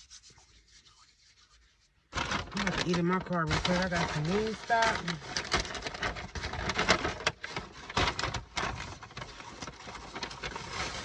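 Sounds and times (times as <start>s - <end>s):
paper bag rustling and crinkling: 2.1s - 11.0s.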